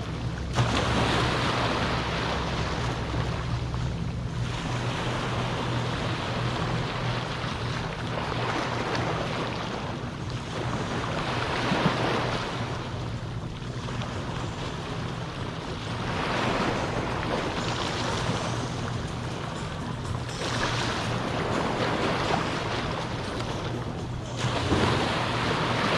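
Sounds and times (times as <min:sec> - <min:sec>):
steady low hum: 0:00.0 - 0:25.9
waves washing onto beach: 0:00.0 - 0:25.9.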